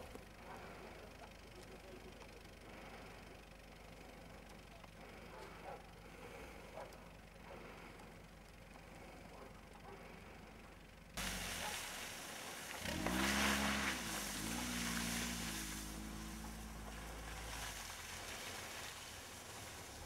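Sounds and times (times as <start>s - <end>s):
suv engine hum: 0.0s - 20.0s.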